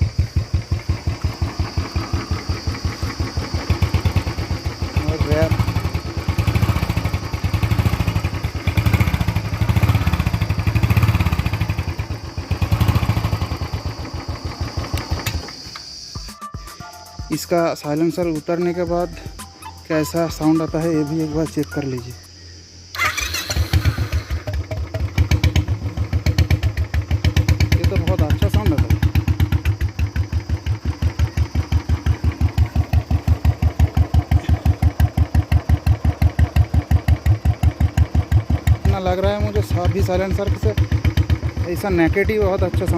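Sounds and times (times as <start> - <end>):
motorcycle engine revving: 0.0 - 15.8, 22.9 - 42.9.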